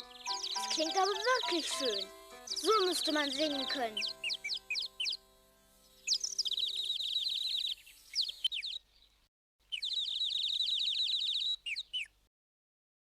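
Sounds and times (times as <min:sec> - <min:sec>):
songbird trilling: 0:00.0 - 0:05.2, 0:06.0 - 0:08.9, 0:09.7 - 0:12.2.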